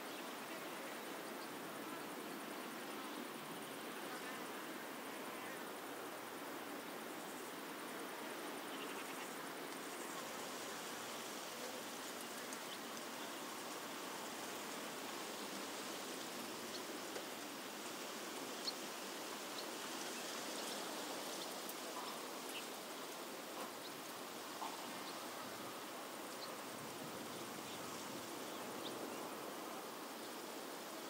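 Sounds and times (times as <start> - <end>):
even outdoor hiss: 0.0 - 31.0.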